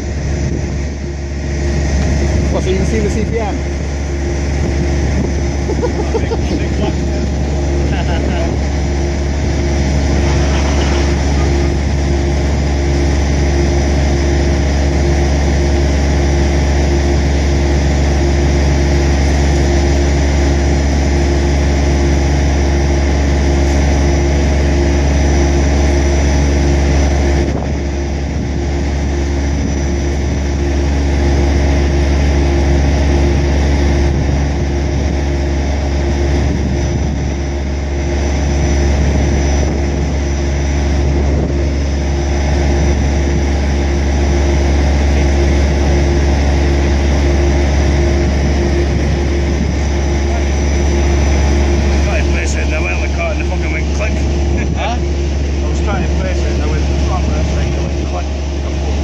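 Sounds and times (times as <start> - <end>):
crane engine running: 0.0 - 59.0.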